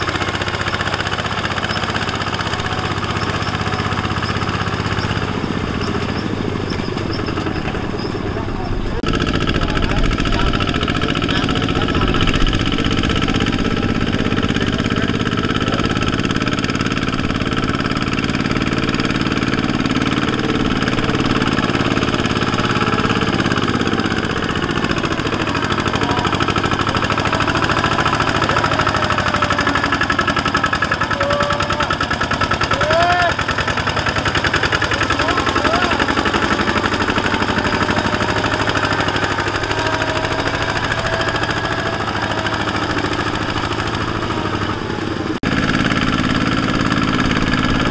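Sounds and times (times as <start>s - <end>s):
diesel engine running hard: 0.0s - 47.9s.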